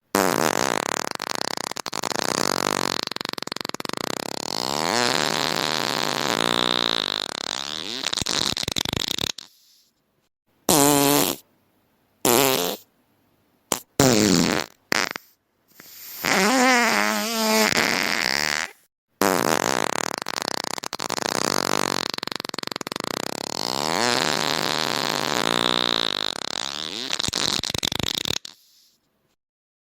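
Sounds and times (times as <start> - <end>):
fart sound effects: 0.1 - 9.6, 10.7 - 11.4, 12.3 - 12.8, 13.7 - 15.4, 16.0 - 28.7.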